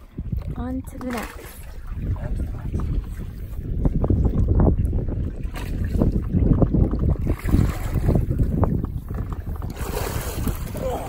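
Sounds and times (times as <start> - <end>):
water sloshing against dinghy hull: 0.0 - 11.0
wind buffeting microphone: 0.0 - 11.0.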